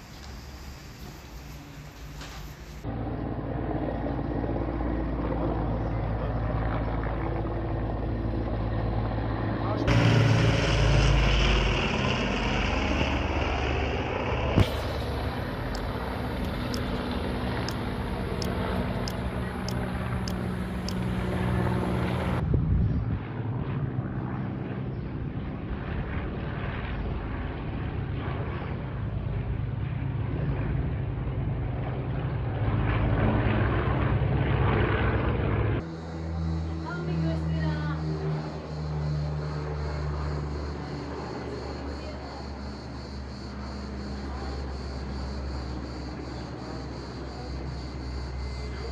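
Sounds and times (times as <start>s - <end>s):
engine drone with noisy rush: 0.0s - 48.9s.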